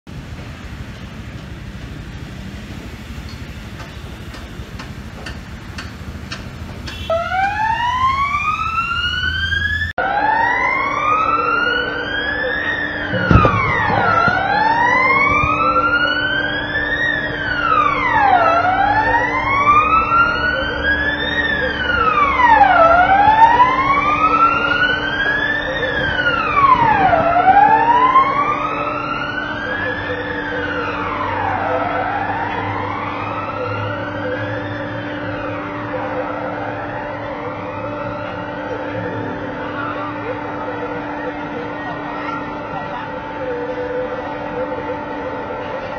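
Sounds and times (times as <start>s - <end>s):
traffic noise: 0.0s - 45.9s
fire engine siren wailing: 0.1s - 45.9s.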